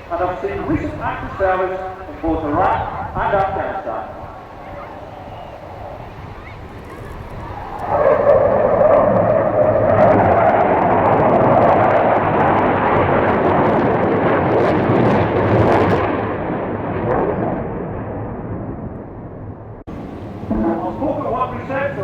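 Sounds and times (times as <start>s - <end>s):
jet roaring past low: 0.0s - 22.0s.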